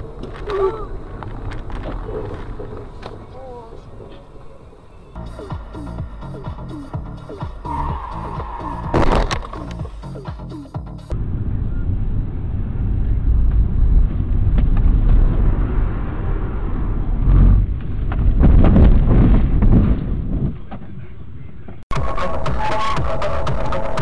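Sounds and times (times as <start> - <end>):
car engine and tyre rumble: 0.0 - 21.9.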